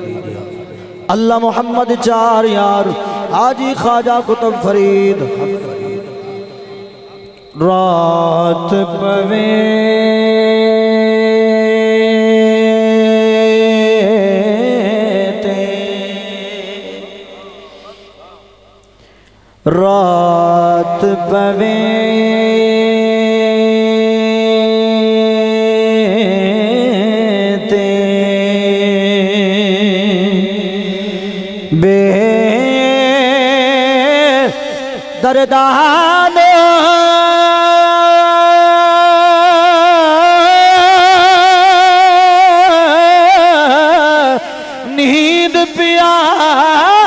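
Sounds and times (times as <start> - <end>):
man singing devotional verse: 0.0 - 47.0.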